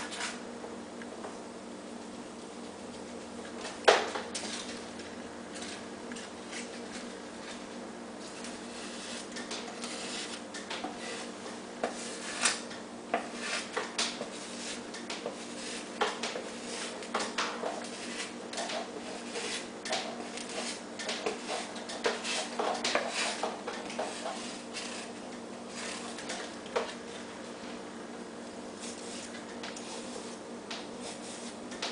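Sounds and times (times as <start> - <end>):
steady hum: 0.0 - 31.9.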